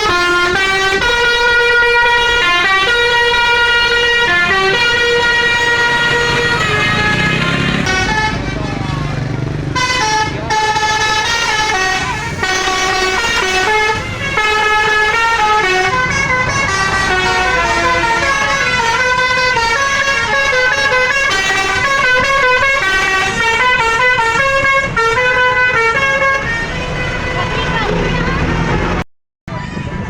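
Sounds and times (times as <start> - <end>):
bus horn playing a tune: 0.0 - 29.0.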